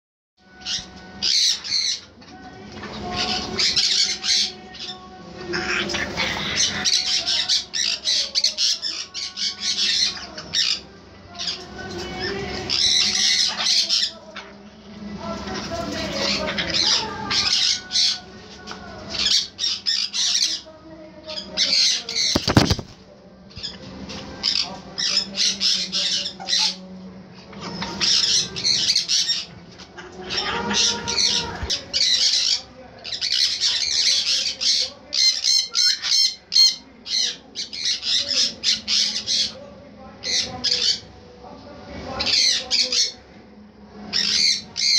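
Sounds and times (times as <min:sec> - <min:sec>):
parrots squawking: 0:00.4 - 0:02.2, 0:02.8 - 0:14.6, 0:15.4 - 0:23.0, 0:23.6 - 0:26.9, 0:27.5 - 0:39.6, 0:40.2 - 0:41.3, 0:42.2 - 0:43.3, 0:44.1 - 0:44.9.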